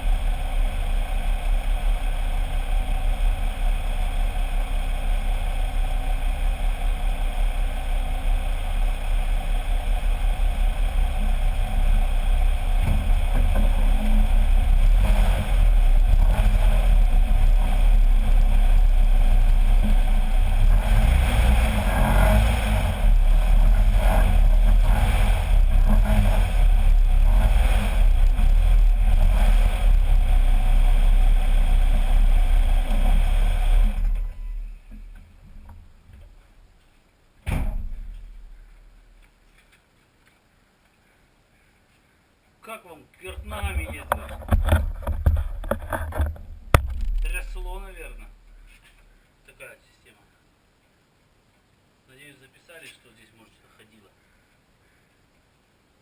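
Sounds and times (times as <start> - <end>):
bumps and buffeting: 0.0 - 40.5, 43.2 - 49.3
road and wind rumble: 0.0 - 40.8, 43.2 - 49.4.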